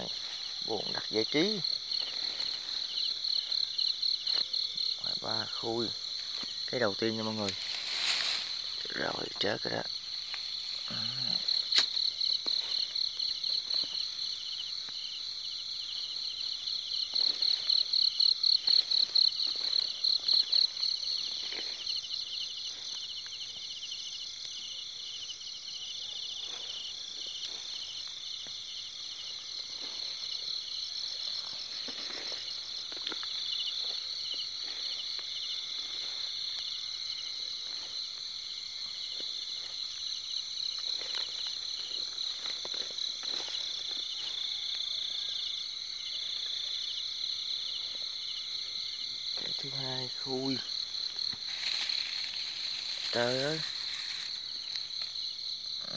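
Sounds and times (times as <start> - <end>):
footsteps through grass: 0.0 - 15.2, 16.0 - 23.7, 26.4 - 44.7, 50.5 - 55.9
night insects trilling: 0.0 - 55.9
rapidly pulsing insect trill: 0.0 - 55.9.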